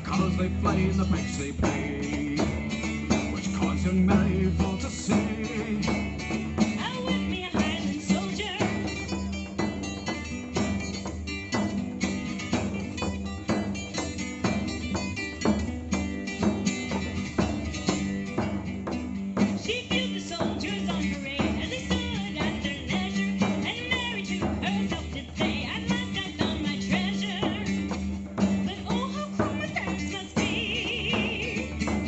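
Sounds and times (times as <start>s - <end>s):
strummed strings: 0.0s - 32.0s.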